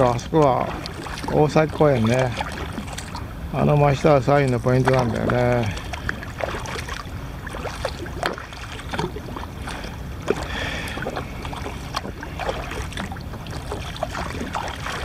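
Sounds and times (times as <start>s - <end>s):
steady low rumble: 0.0s - 15.0s
water lapping against kayak: 0.0s - 15.0s.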